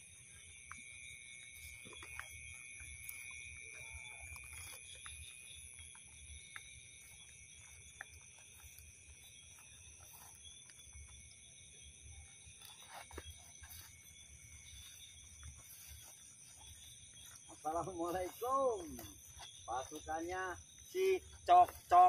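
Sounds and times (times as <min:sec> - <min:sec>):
footsteps through dry grass: 0:00.0 - 0:22.0
night insects trilling: 0:00.0 - 0:22.0.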